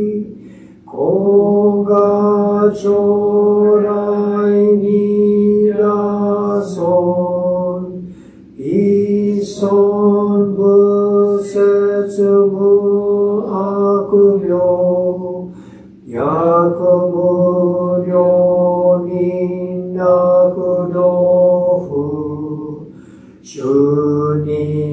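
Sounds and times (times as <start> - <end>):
man chanting in long notes: 0.0 - 24.9.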